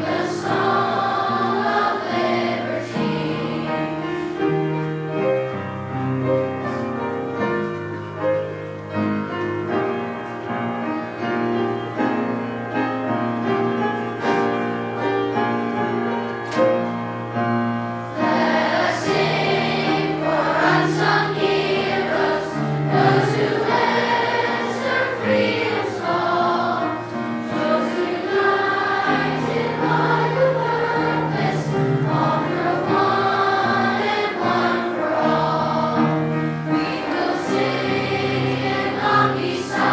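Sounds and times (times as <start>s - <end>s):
children's choir singing: 0.0s - 39.9s
instrumental accompaniment: 0.0s - 39.9s.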